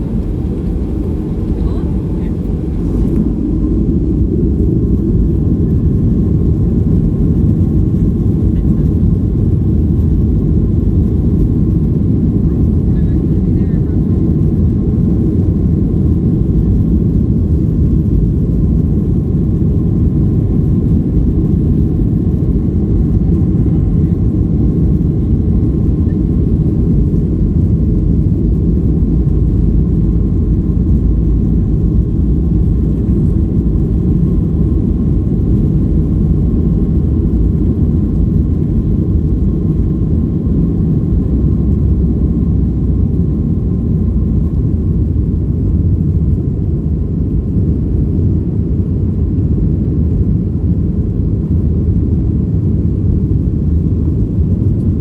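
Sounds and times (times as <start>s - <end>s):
deep cabin engine rumble: 0.0s - 55.0s
faint steady whine: 0.0s - 55.0s.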